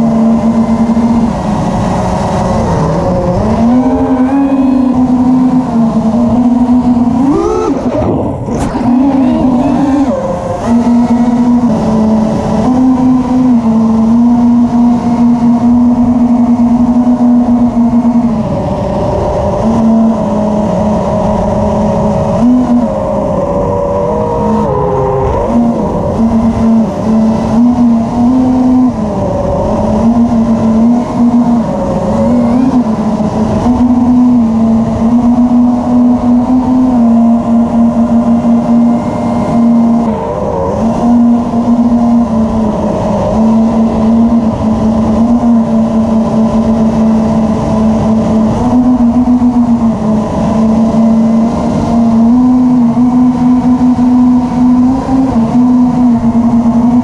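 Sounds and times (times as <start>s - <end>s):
model airplane motor droning: 0.0s - 57.0s.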